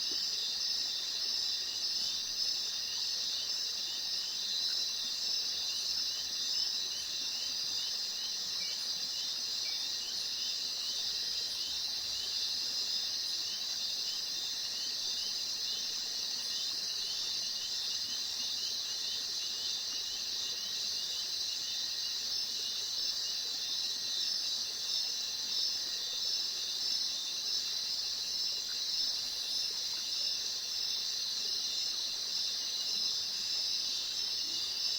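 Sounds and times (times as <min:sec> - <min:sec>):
insects trilling and chirping: 0:00.0 - 0:34.9.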